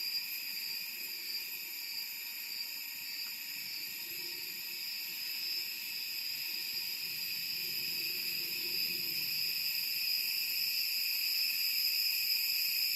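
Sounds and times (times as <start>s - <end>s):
cicadas buzzing in chorus: 0.0s - 12.9s.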